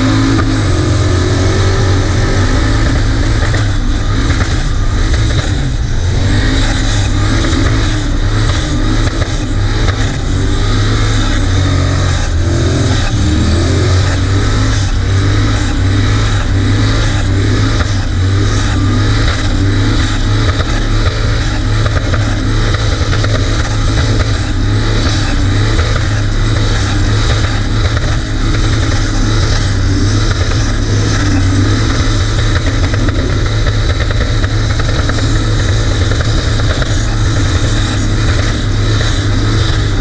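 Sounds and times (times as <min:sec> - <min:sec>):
loud engine revving: 0:00.0 - 0:40.0.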